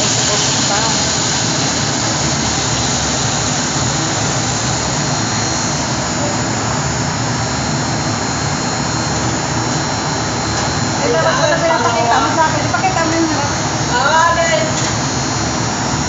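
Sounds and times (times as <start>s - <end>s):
gas wok burner roaring: 0.0s - 16.0s.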